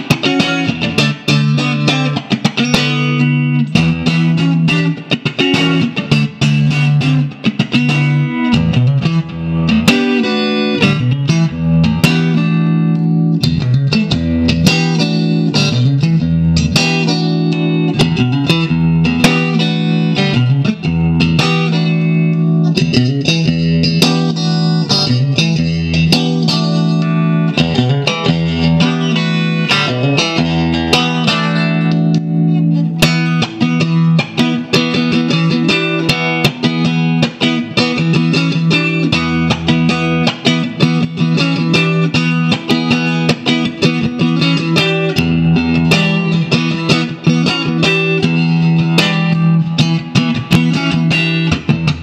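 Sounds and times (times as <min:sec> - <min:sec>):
electric guitar playing notes and chords: 0:00.0 - 0:52.0.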